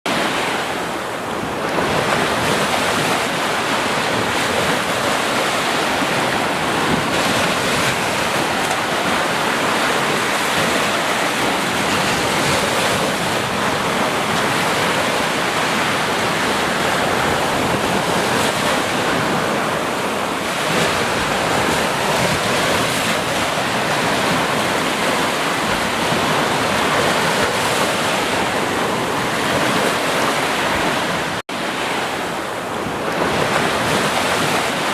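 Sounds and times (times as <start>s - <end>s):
rushing water: 0.1s - 34.9s.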